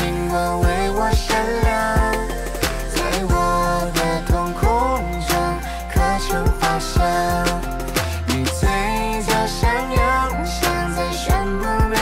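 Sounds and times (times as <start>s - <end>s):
pop song with drum beat: 0.0s - 12.0s.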